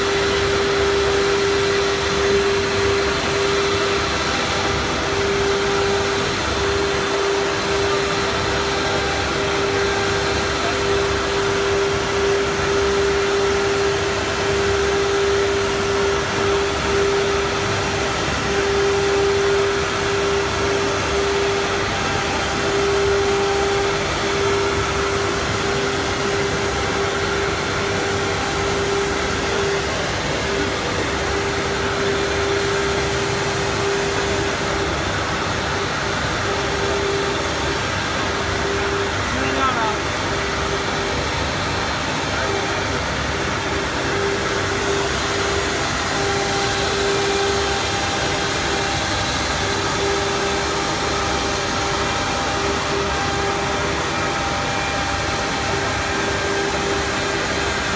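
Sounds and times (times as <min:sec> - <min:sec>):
router spindle hum: 0:00.0 - 0:57.9.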